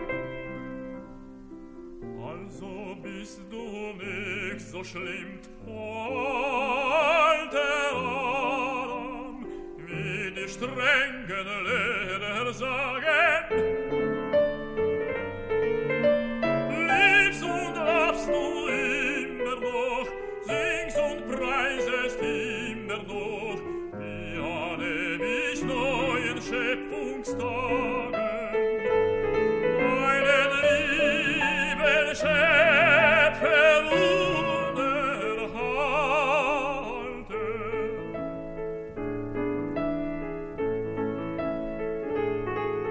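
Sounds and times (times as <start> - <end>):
piano accompaniment: 0.0 - 42.9
tenor singing with vibrato: 2.0 - 39.0.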